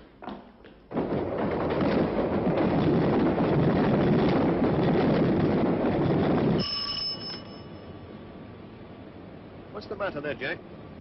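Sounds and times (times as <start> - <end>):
underground train rumbling in tunnel: 0.9 - 11.0.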